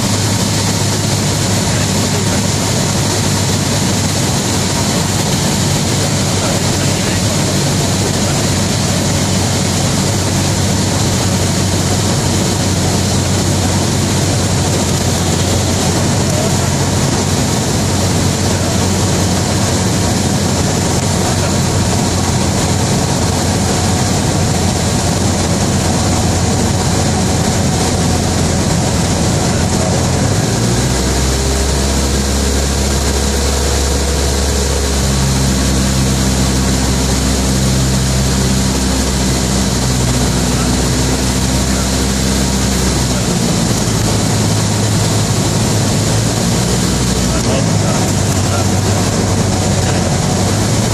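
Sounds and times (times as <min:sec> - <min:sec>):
airflow rushing: 0:00.0 - 0:50.9
propeller plane engine running: 0:00.0 - 0:50.9.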